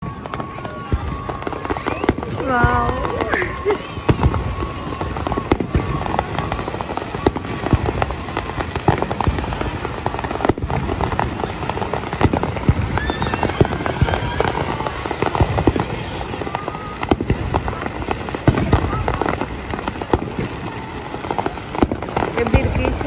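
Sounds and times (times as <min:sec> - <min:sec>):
firework whistling: 0:00.0 - 0:23.0
fireworks bangs and crackling: 0:00.0 - 0:23.0.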